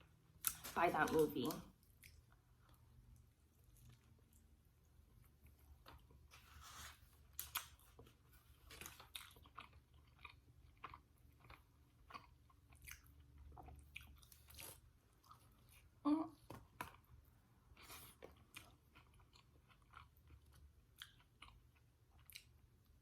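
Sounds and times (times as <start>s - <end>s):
close chewing and crunching: 0.3s - 23.0s.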